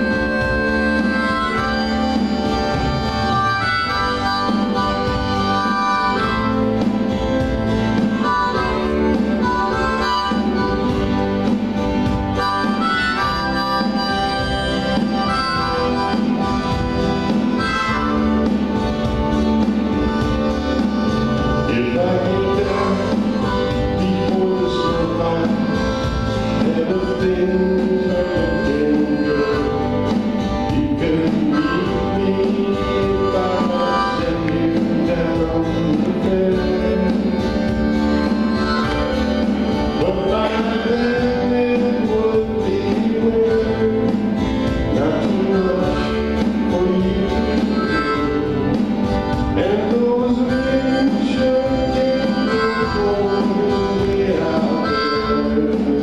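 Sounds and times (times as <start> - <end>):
acoustic guitar: 0.0 - 56.0
keyboard: 0.0 - 56.0
live band playing country-folk: 0.0 - 56.0.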